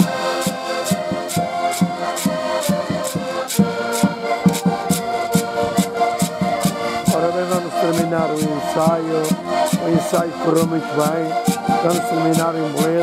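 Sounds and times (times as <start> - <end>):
button accordions playing: 0.0 - 13.0
sharp tap on each beat: 0.0 - 13.0.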